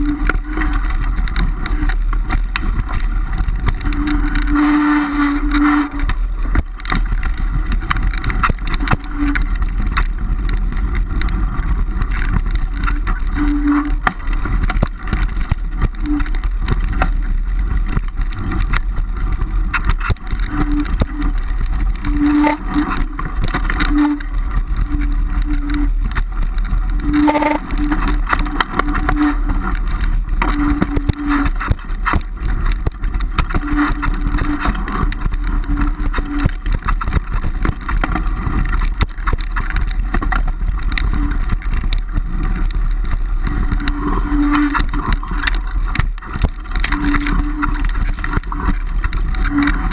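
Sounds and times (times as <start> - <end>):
bicycle rattling on dirt trail: 0.0 - 49.9
low hum: 0.0 - 49.9.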